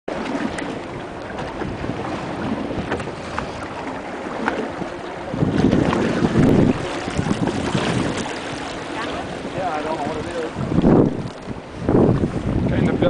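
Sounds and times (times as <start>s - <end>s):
water splashes: 0.1s - 13.0s
wind buffeting microphone: 0.1s - 13.0s.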